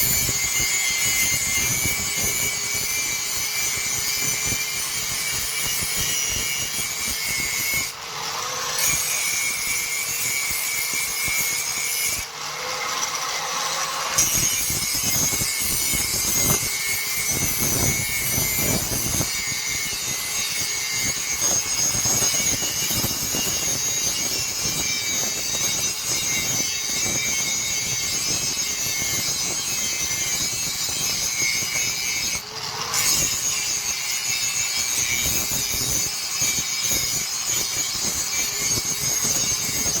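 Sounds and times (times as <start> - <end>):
power tool grinding steel: 0.0 - 40.0.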